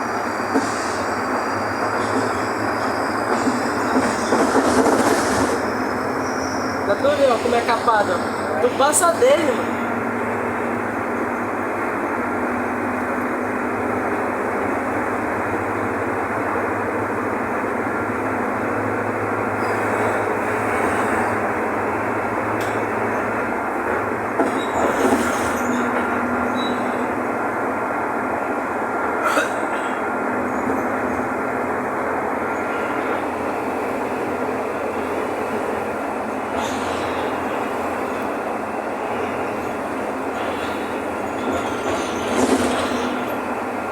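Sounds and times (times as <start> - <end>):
bus engine and road rumble: 0.0 - 43.9
bus rattling: 0.0 - 43.9.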